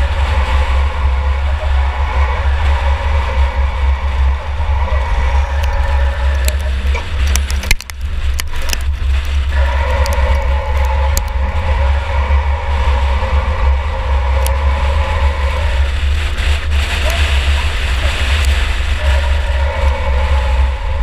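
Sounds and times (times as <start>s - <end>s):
sharp knocks and rattles: 0.0s - 19.0s
race car engine rumbling: 0.0s - 21.0s.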